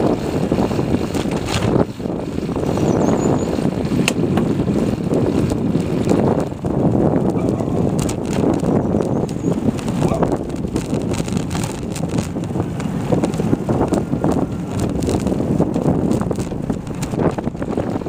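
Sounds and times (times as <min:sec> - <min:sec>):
road noise: 0:00.0 - 0:18.0
vehicle engine running: 0:00.0 - 0:18.0
wind buffeting microphone: 0:00.0 - 0:18.0.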